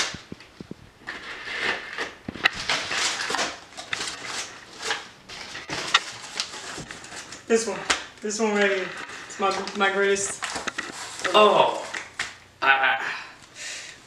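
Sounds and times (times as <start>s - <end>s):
paper crinkling and crackling: 0.0s - 12.4s.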